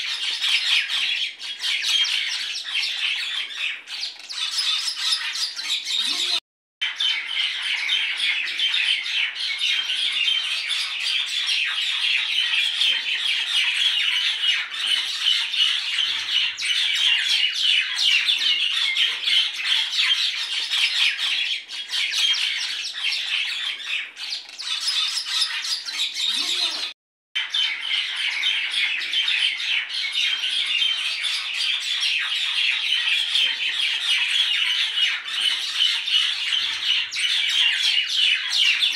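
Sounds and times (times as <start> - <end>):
flock of birds chattering: 0.0 - 38.9.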